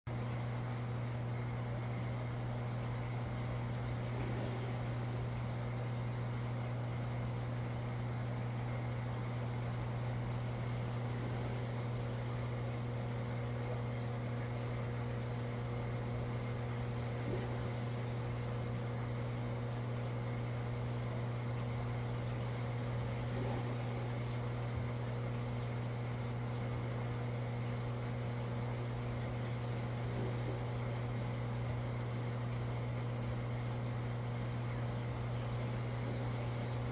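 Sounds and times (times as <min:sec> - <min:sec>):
aquarium pump humming: 0:00.1 - 0:36.9.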